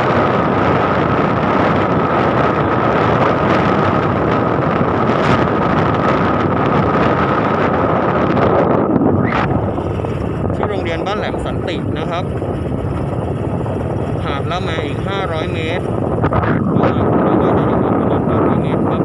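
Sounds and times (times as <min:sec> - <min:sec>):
constant high whine: 0:00.0 - 0:19.0
motorcycle engine running: 0:00.0 - 0:19.0
wind buffeting microphone: 0:00.0 - 0:19.0.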